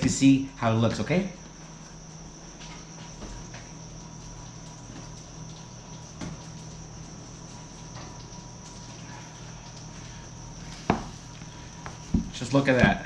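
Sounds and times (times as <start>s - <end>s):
electrical hum and whine: 0.0s - 13.0s.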